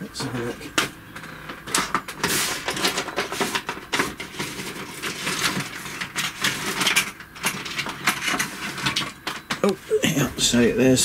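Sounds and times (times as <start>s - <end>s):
objects rummaged on a workbench: 0.2s - 9.6s.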